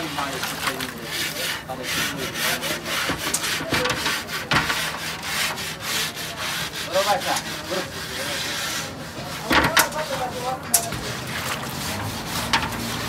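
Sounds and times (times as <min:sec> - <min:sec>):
sponge scrubbing metal pot: 0:00.0 - 0:13.0.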